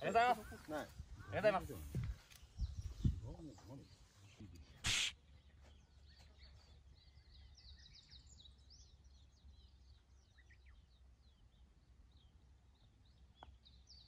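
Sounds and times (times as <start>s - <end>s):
faint small birds chirping: 0.0s - 14.0s.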